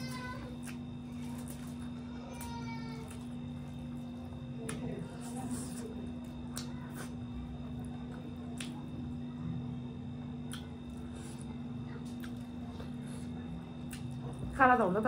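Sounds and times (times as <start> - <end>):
steady low hum: 0.0 - 15.0
wet chewing: 0.5 - 9.3, 10.3 - 14.5.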